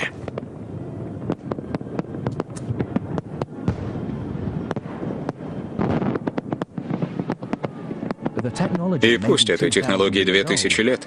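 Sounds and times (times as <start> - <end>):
continuous low rumble: 0.0 - 11.0
fireworks bursting with sharp bangs: 0.0 - 11.0.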